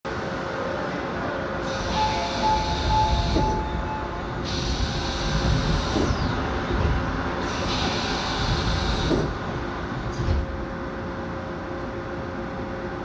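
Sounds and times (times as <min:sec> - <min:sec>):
subway train rumbling on rails: 0:00.1 - 0:13.0.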